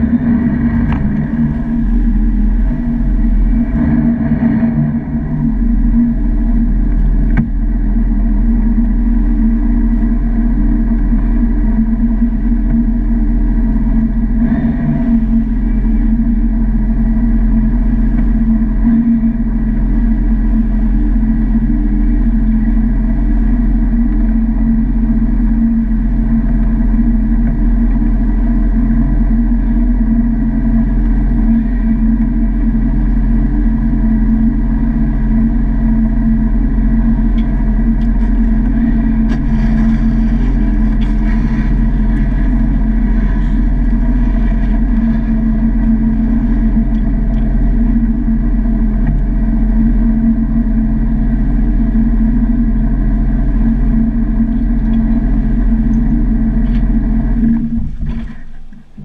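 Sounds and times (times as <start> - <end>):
jet ski engine idling: 0.0 - 59.0.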